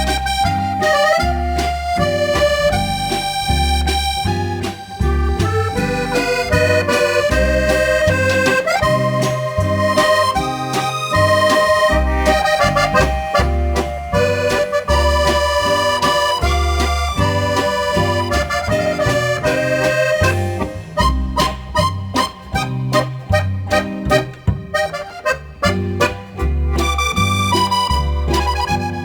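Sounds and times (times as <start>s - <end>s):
accordion melody: 0.0s - 29.0s
oom-pah bass and chords: 0.0s - 29.0s.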